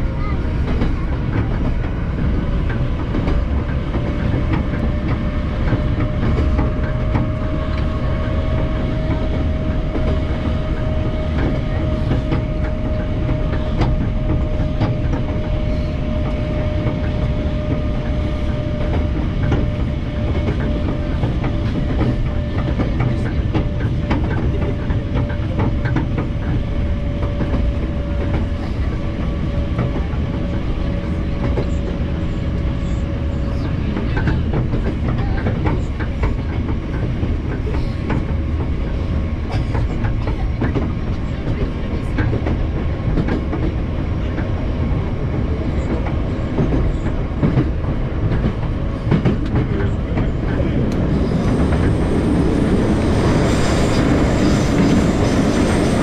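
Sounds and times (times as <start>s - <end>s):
steady train whine: 0.0s - 56.0s
train wheels rumbling on rails: 0.0s - 56.0s.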